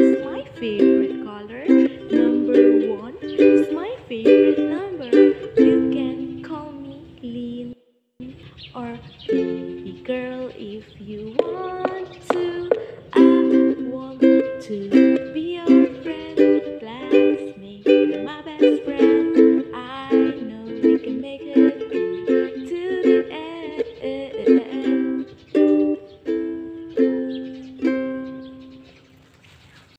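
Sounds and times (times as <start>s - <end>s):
ukulele strumming chords: 0.0s - 7.4s, 9.3s - 28.9s.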